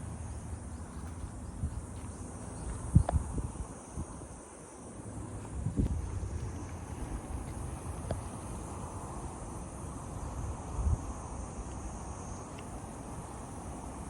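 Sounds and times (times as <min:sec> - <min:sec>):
insects chirring: 0:00.0 - 0:14.0
wind buffeting microphone: 0:00.0 - 0:14.0.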